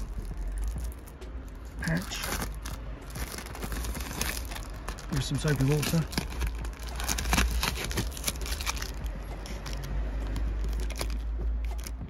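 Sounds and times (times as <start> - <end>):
steady low rumble: 0.0 - 12.0
tape crinkling and crackling: 0.0 - 12.0.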